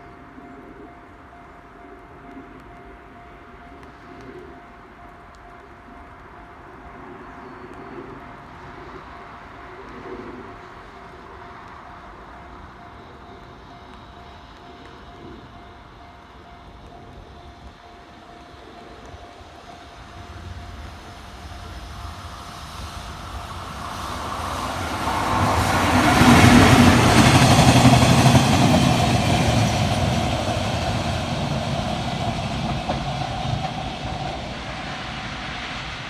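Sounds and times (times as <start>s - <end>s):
freight train running past: 0.0s - 36.0s.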